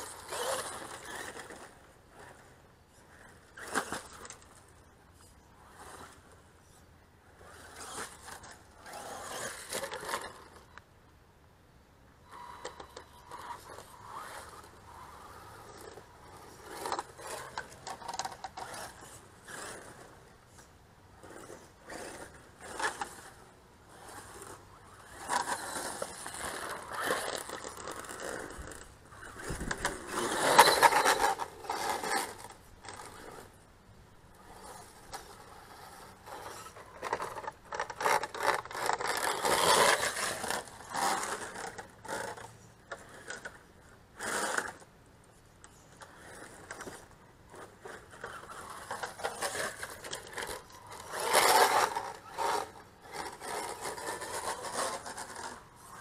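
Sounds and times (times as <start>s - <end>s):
toy truck motor revving: 0.0s - 4.8s, 5.5s - 10.7s, 12.3s - 33.6s, 34.3s - 44.9s, 45.9s - 56.0s
tyres scraping dirt: 0.0s - 10.8s, 12.2s - 56.0s.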